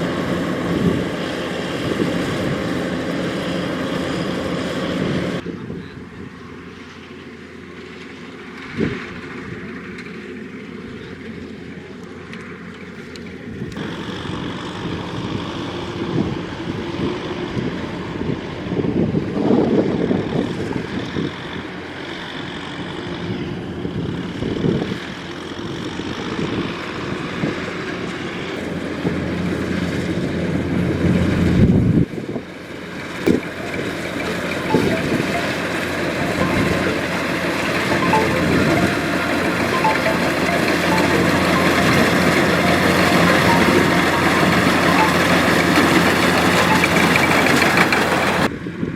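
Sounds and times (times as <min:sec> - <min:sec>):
combine harvester running: 0:00.0 - 0:18.6, 0:27.7 - 0:48.8.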